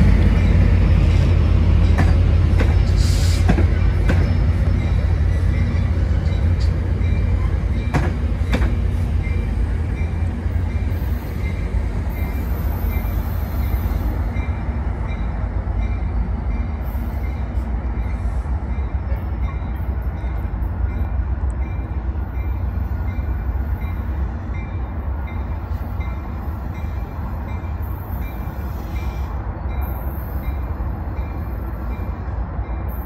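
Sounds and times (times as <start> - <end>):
train rumbling: 0.0 - 33.0
wheel and rail noise: 0.0 - 33.0.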